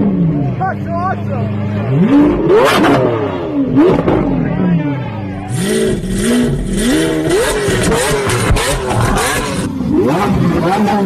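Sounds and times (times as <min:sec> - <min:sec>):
sports car engine revving: 0:01.2 - 0:11.0.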